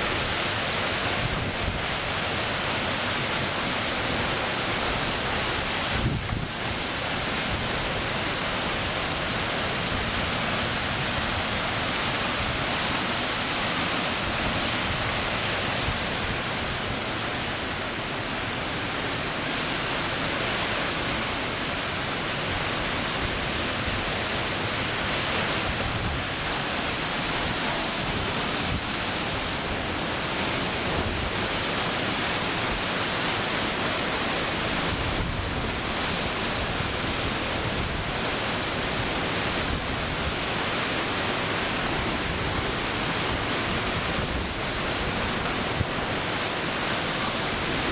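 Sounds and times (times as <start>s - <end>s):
wind and rain rushing: 0.0s - 47.9s.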